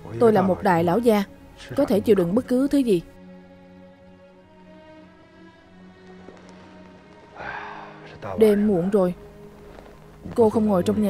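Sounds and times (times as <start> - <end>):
soft film score: 0.0 - 11.0.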